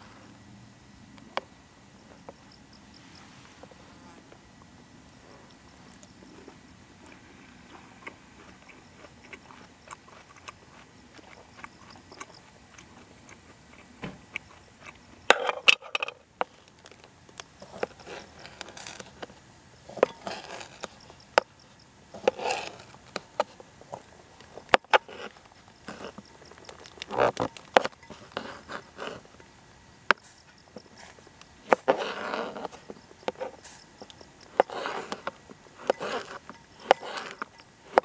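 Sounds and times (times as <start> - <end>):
loud close crunching and clicking: 5.5 - 29.5, 30.1 - 38.0.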